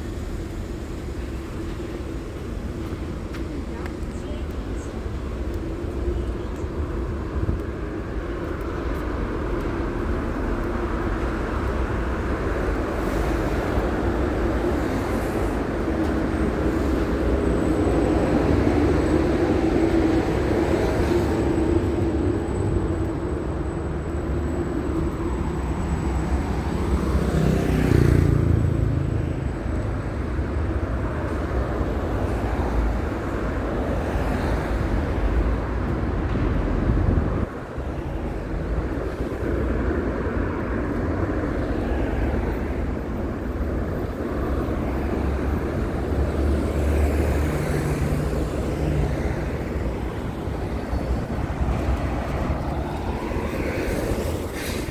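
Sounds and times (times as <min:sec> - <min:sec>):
passing cars rumble: 0:00.0 - 0:54.9.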